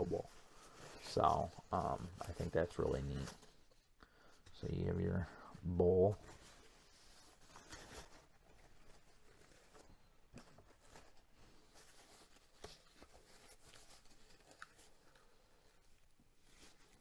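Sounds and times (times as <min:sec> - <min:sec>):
wrap rustling: 0:00.0 - 0:17.0.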